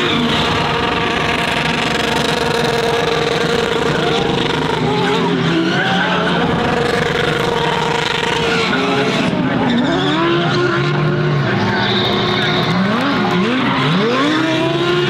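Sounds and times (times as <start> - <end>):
race car engines revving: 0.0 - 15.0
tyres skidding and squealing: 0.0 - 15.0.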